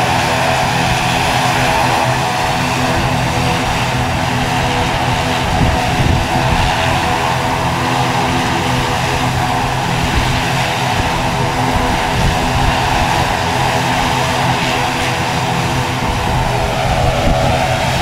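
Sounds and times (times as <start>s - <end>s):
aircraft engines whining: 0.0s - 18.0s.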